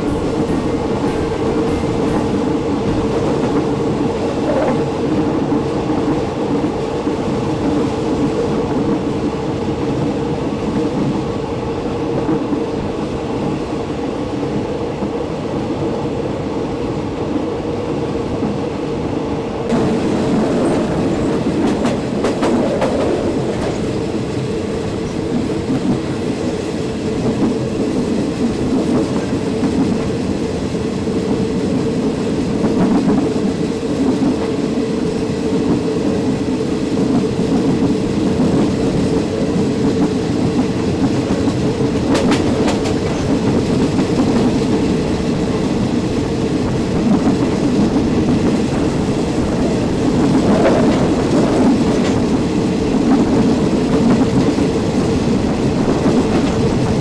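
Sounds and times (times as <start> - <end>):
clickety-clack of rail joints: 0.0 - 13.6, 19.7 - 57.0
train wheels rumbling on rail: 0.0 - 57.0.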